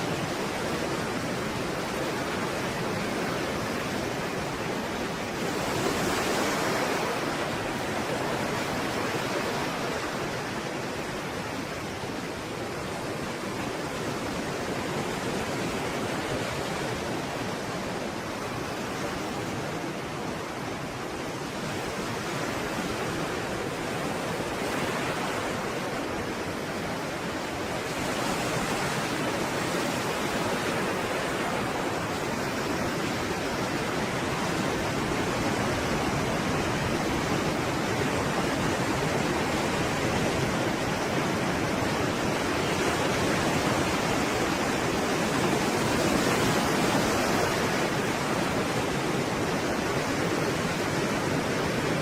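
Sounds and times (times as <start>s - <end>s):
stormy sea waves: 0.0s - 52.0s.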